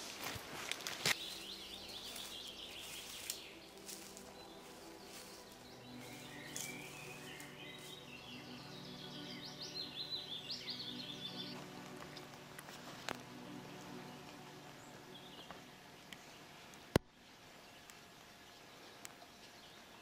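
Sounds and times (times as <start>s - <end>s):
small birds chirping and singing: 0.8s - 20.0s
faint low drone: 1.1s - 20.0s.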